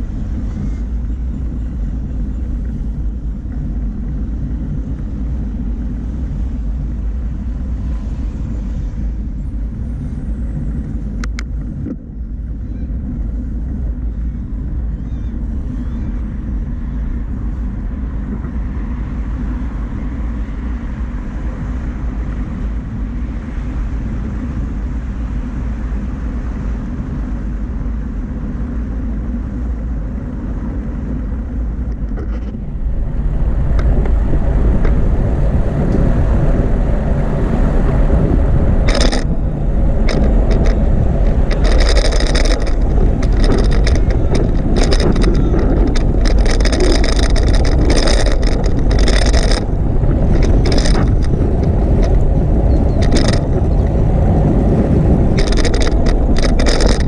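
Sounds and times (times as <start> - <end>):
wind and road noise rumble: 0.0 - 57.0.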